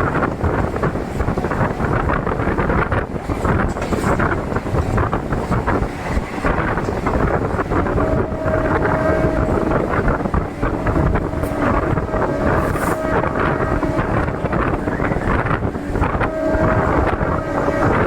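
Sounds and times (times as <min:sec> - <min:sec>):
train running: 0:00.0 - 0:18.0
wind buffeting microphone: 0:00.0 - 0:18.0.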